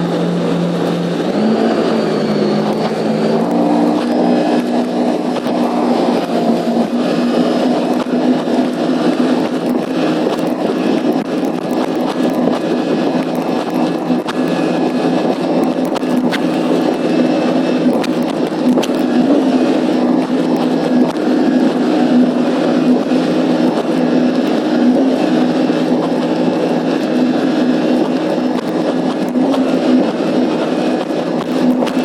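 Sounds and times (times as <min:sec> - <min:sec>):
jet ski engine droning: 0:00.0 - 0:32.0
rushing water: 0:00.0 - 0:32.0.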